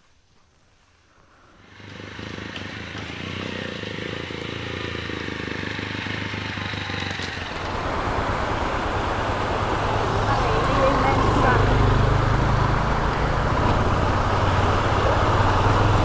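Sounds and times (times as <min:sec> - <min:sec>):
tyre noise on dirt road: 0:00.0 - 0:16.0
vehicle engine hum: 0:01.6 - 0:16.0.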